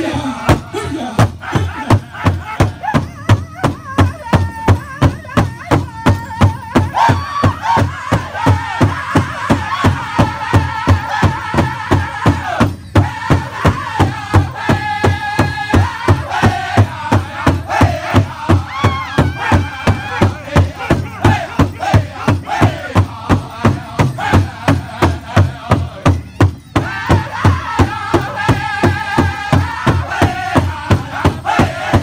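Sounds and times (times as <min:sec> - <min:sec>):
big drum beating: 0:00.0 - 0:32.0
men singing together: 0:00.0 - 0:32.0.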